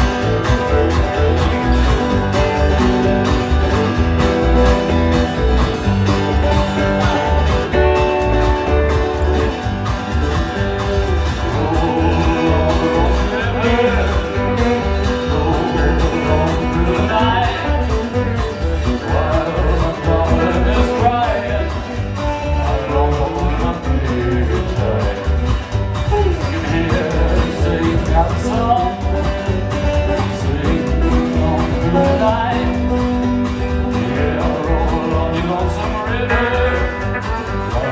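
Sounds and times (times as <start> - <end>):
guitars: 0.0 - 37.9
live country band playing: 0.0 - 37.9
pulsing bass beat: 0.0 - 37.9.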